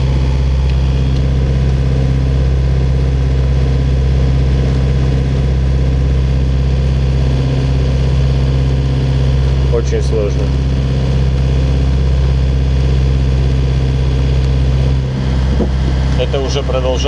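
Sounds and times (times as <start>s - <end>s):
diesel engine low drone: 0.0s - 17.0s.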